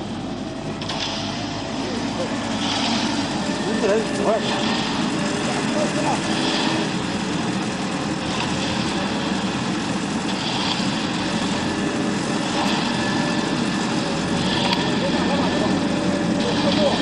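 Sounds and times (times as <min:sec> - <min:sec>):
concrete mixer engine running: 0:00.0 - 0:17.0.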